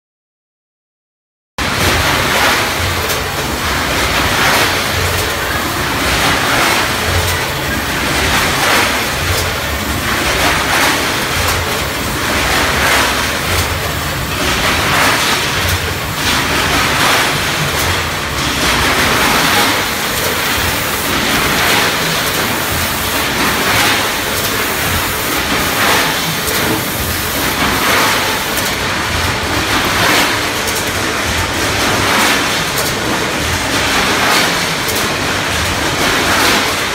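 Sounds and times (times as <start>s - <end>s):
packaging machine noise: 1.6s - 36.9s.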